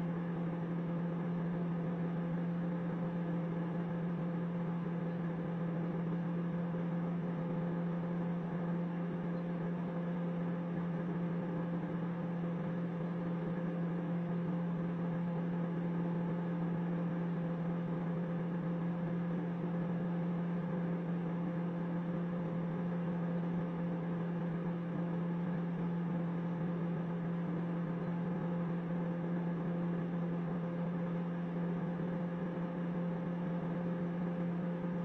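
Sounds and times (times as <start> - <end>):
microwave oven humming: 0.0 - 35.0.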